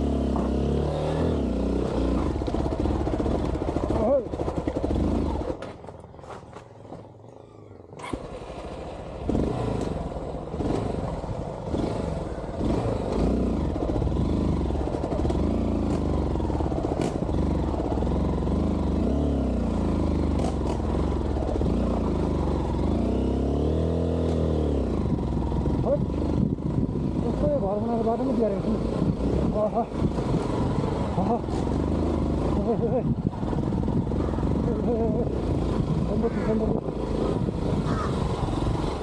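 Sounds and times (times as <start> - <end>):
motorcycle engine revving: 0.0 - 6.4, 7.4 - 39.0.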